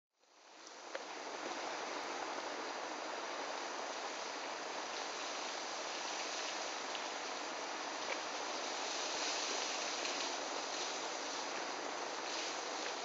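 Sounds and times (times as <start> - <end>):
steady rushing hiss: 0.2 - 13.0.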